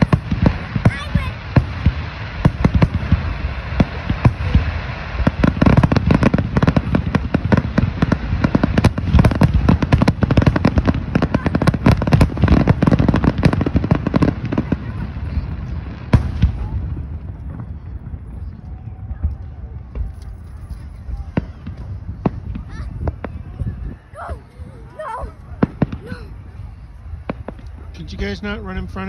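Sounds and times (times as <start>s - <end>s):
fireworks bangs and crackle: 0.0s - 29.0s.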